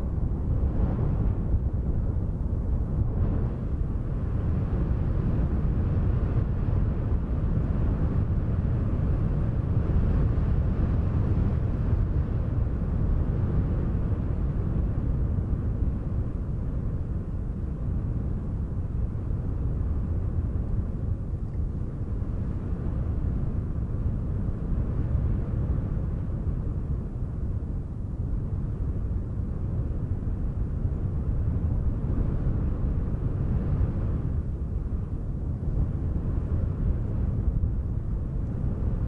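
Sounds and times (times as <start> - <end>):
low wind rumble: 0.0 - 39.0.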